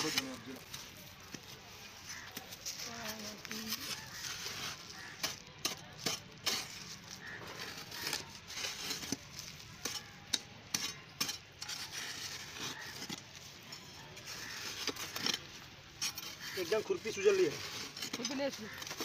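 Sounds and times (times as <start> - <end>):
hoe scraping soil: 0.0 - 19.0.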